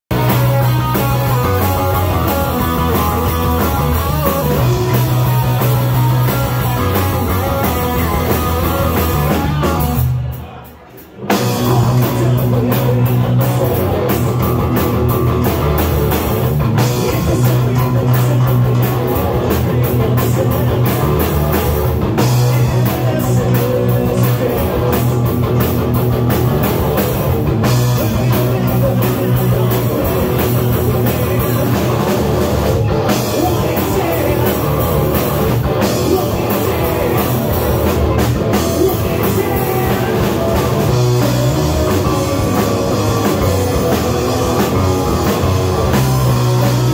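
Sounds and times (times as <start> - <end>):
electric bass guitar: 0.0 - 10.5, 11.2 - 46.9
drum kit fast beat: 0.1 - 10.4, 11.2 - 46.9
distorted electric guitar: 0.1 - 46.9.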